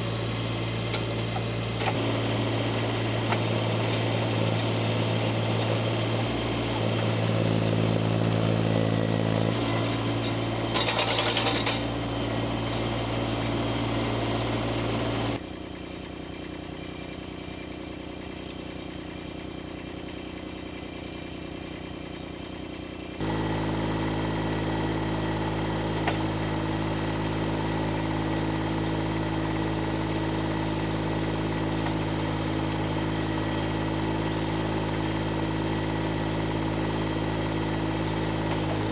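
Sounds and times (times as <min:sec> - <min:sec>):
engine rattle: 0:00.0 - 0:38.9
engine running steadily: 0:00.0 - 0:38.9.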